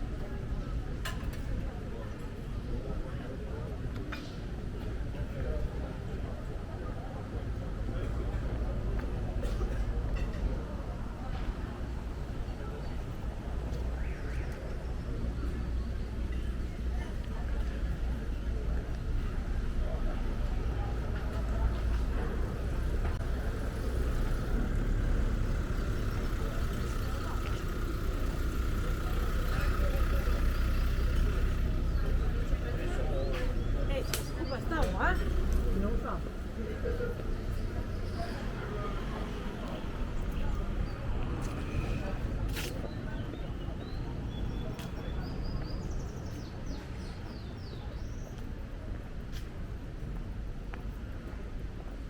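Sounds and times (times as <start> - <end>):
low rumble of traffic: 0.0 - 52.0.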